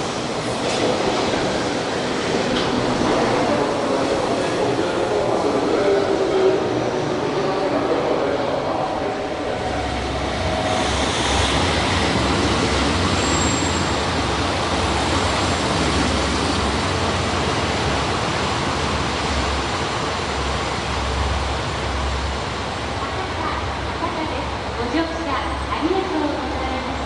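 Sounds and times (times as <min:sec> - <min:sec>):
diesel railcar engine drone: 0:00.0 - 0:27.0.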